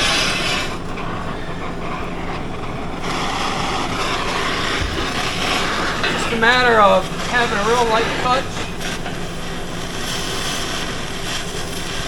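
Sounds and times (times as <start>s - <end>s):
cutting torch hissing: 0.0s - 12.0s.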